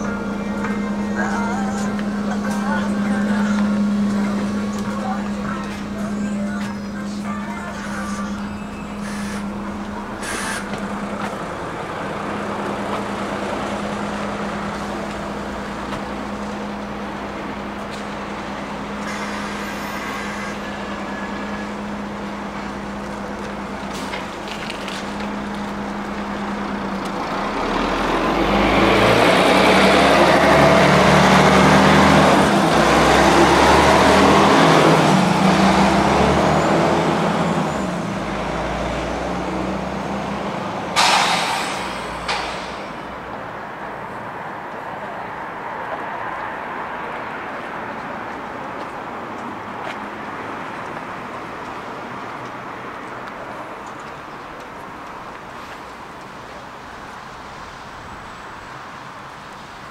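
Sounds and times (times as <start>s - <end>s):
bus engine hum: 0.0s - 59.9s
road noise: 0.0s - 59.9s.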